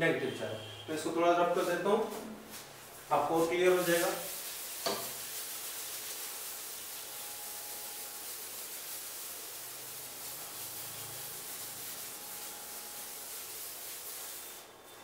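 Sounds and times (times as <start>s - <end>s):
background hiss: 1.4s - 15.0s.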